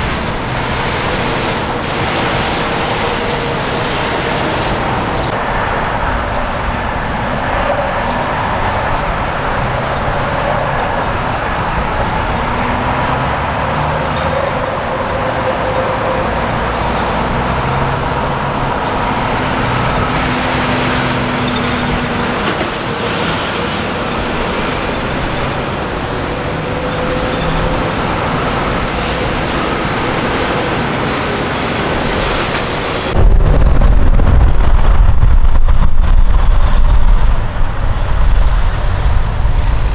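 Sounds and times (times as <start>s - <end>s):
diesel truck engine rumble: 0.0s - 32.3s, 33.0s - 39.9s
road noise: 0.0s - 39.9s.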